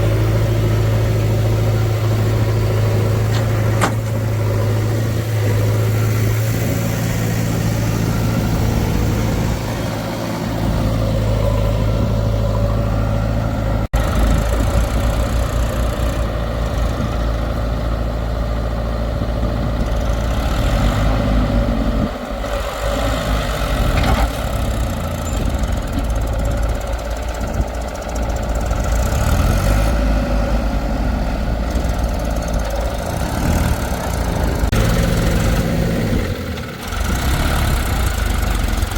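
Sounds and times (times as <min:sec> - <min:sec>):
heavy machinery diesel engine: 0:00.0 - 0:38.9.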